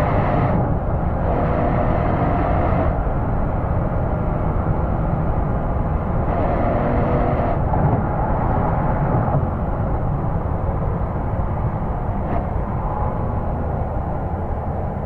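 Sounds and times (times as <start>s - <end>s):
car exhaust low rumble: 0.0s - 15.0s
higher engine tone: 0.0s - 15.0s.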